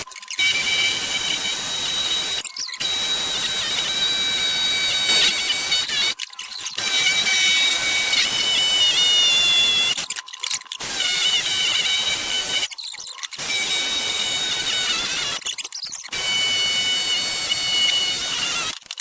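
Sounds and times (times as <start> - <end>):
power tool whining: 0.0 - 10.1, 10.8 - 12.7, 13.3 - 18.9.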